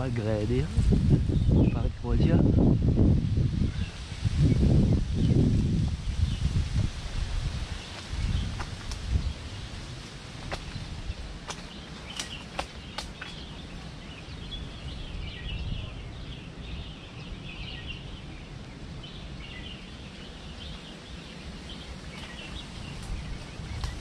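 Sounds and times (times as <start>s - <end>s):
low wind rumble: 0.0s - 24.0s
small birds chirping: 3.6s - 24.0s.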